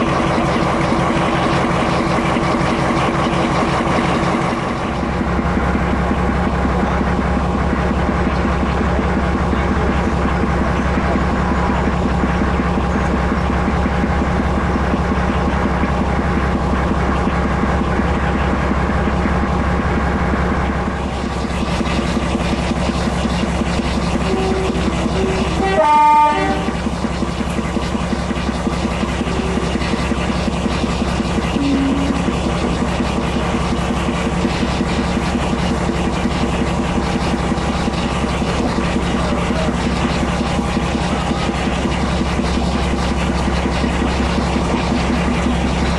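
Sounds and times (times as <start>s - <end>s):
diesel locomotive engine running: 0.0s - 45.9s.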